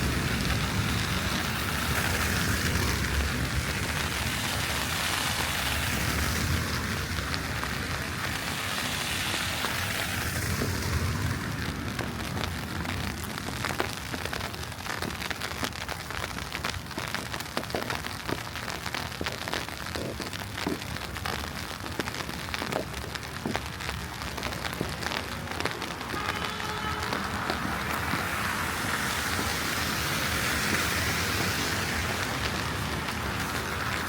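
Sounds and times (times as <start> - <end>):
wet snow pattering: 0.0 - 34.0.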